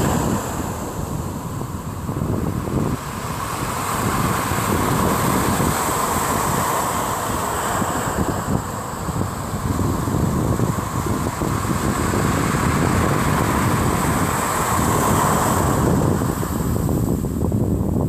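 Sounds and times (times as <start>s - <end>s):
surf breaking on a sandy beach: 0.0s - 18.0s
wind buffeting the microphone: 0.0s - 18.0s.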